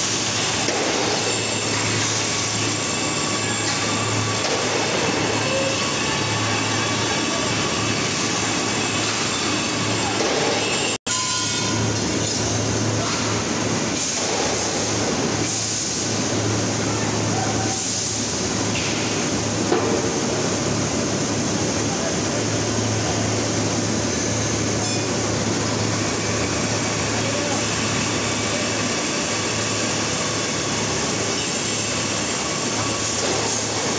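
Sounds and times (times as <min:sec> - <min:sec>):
rolling mill machinery rush: 0:00.0 - 0:33.9.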